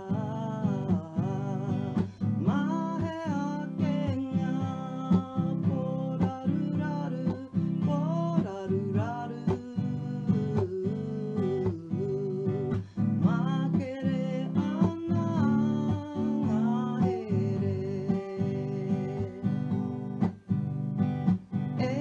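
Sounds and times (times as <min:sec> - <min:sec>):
person singing: 0:00.0 - 0:20.4, 0:21.7 - 0:22.0
acoustic guitar strumming: 0:00.0 - 0:22.0.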